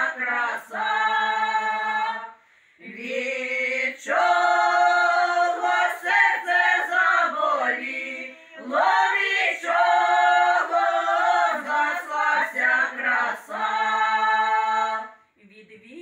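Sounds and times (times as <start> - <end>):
women singing a cappella harmony: 0.0 - 16.0.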